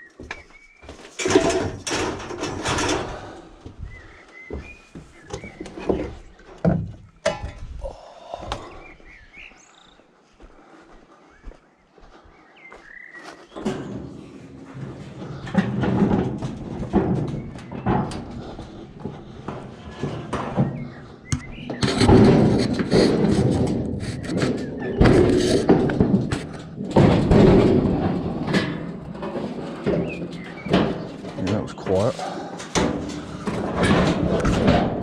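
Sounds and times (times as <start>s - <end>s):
scrap metal banging and scraping: 0.6s - 7.8s, 13.2s - 35.0s.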